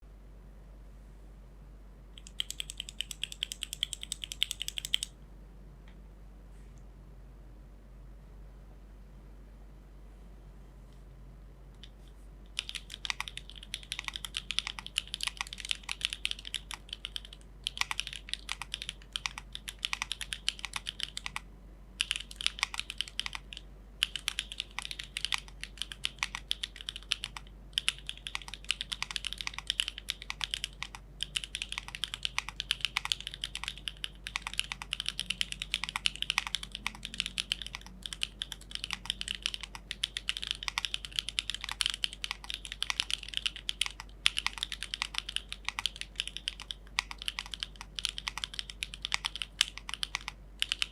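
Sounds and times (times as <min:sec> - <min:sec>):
mechanical keyboard typing: 0:02.2 - 0:05.1, 0:11.8 - 0:50.9.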